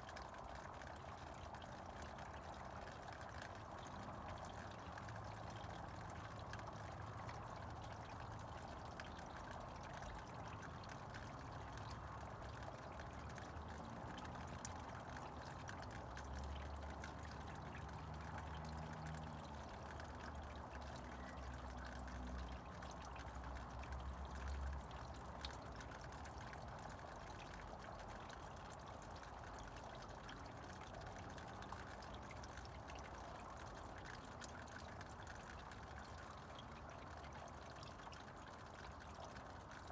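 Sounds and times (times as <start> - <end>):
fine drips and ticks: 0.0 - 39.9
water trickling: 0.0 - 39.9.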